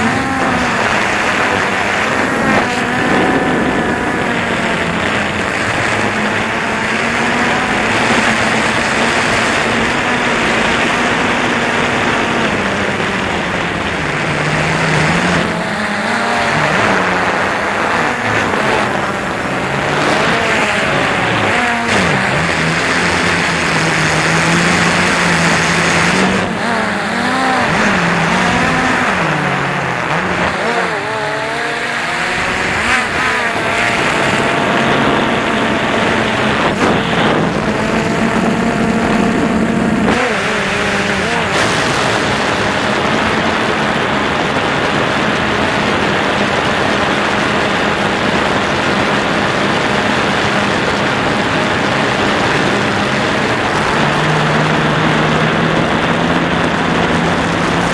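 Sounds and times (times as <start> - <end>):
drone motors whining: 0.0 - 57.9
wind noise: 0.0 - 57.9.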